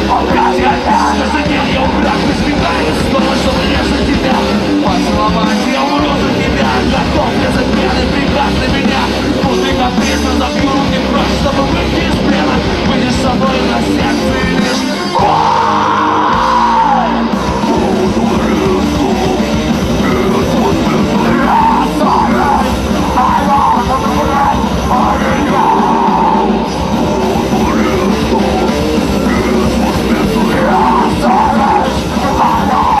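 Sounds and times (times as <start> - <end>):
person singing: 0.0 - 33.0
rock band playing live: 0.0 - 33.0.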